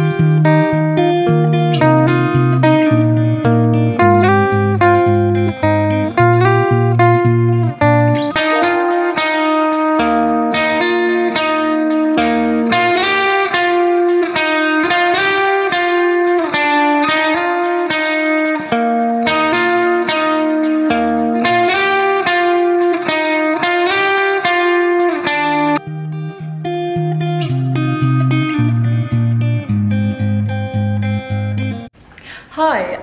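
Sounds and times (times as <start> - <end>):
plucked guitar melody: 0.0 - 31.9.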